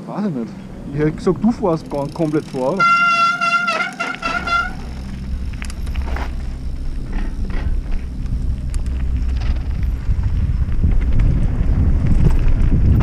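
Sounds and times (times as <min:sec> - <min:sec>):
tyres and wind rumble: 0:00.0 - 0:13.0
bike clicks and rattles: 0:00.5 - 0:13.0.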